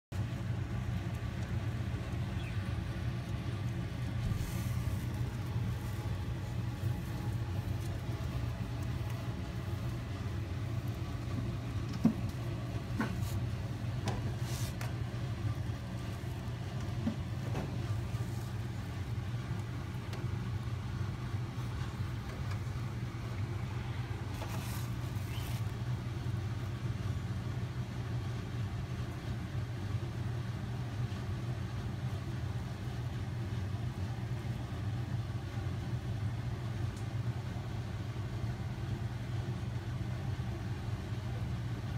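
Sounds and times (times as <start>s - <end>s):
low background hum: 0.1s - 41.9s.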